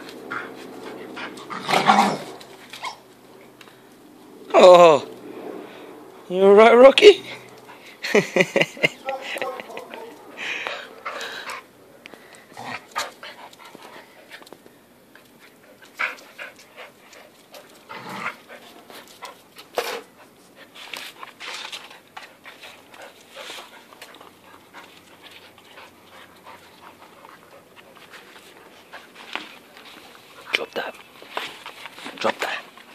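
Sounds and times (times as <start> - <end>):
dogs panting: 0.0 - 3.6, 7.2 - 32.9.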